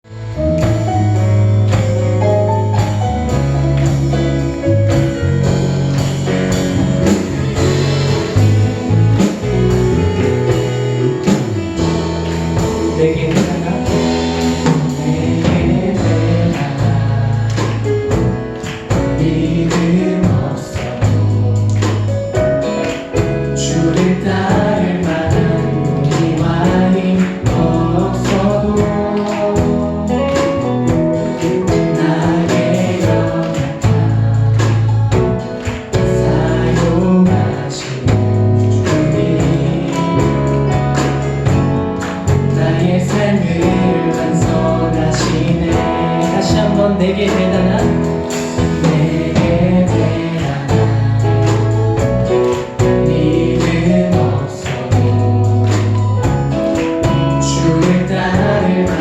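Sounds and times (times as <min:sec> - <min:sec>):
strong bass: 0:00.0 - 0:59.0
worship band playing: 0:00.0 - 0:59.0
steady drum beat: 0:00.1 - 0:59.0.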